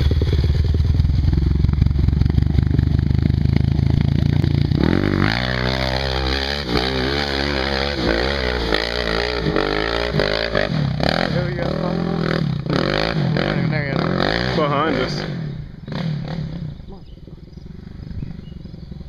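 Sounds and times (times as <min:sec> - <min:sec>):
atv engine revving uphill: 0:00.0 - 0:19.0.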